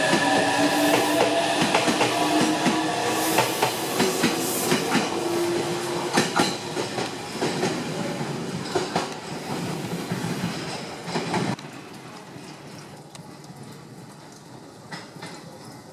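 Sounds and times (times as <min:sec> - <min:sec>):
train wheels clicking over rail joints: 0:00.0 - 0:07.9, 0:08.5 - 0:15.9.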